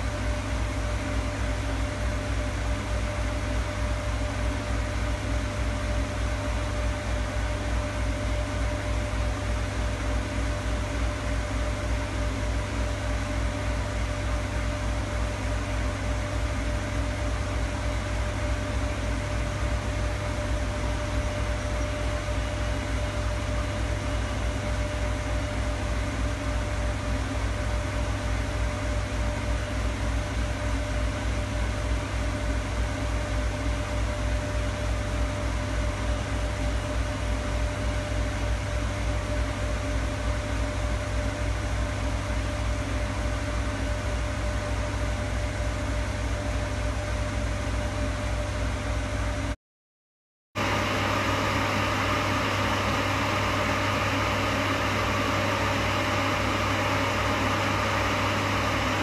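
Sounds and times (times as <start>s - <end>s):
washing machine hum: 0.0s - 49.6s, 50.6s - 59.0s.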